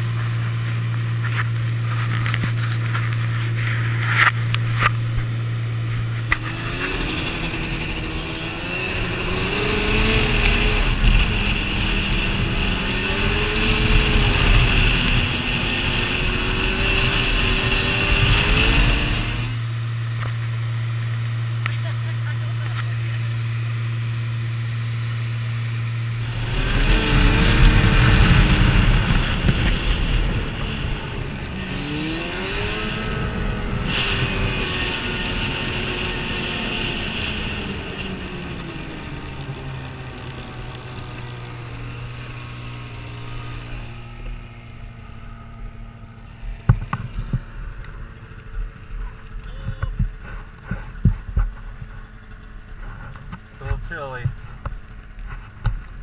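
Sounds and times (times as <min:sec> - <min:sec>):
rushing wind: 0:00.0 - 0:56.0
snowmobile engine running: 0:00.0 - 0:56.0
steady low drone: 0:00.0 - 0:56.0.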